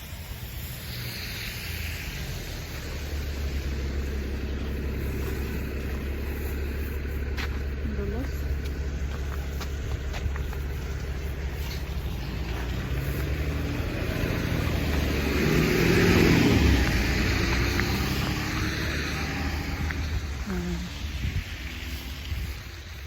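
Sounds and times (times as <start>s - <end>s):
car passing by: 0.0s - 23.0s
tyre hiss: 0.0s - 23.0s.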